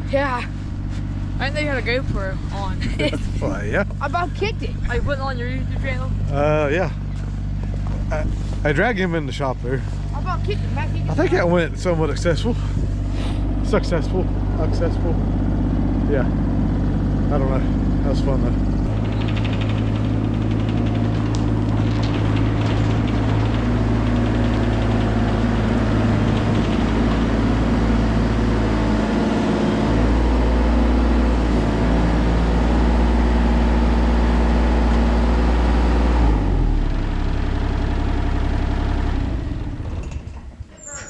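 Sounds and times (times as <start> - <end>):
excavator engine running: 0.0 - 41.0.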